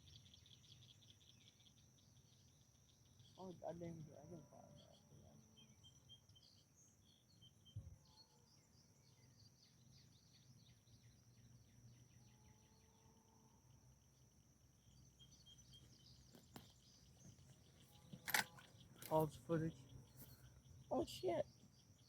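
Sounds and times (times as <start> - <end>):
faint bird chirps: 0.0 - 13.5, 14.8 - 22.0.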